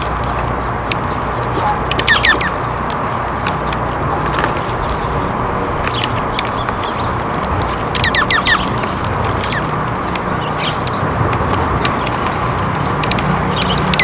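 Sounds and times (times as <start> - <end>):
faint bird chips: 0.0 - 14.0
songbird falling notes: 0.0 - 14.0.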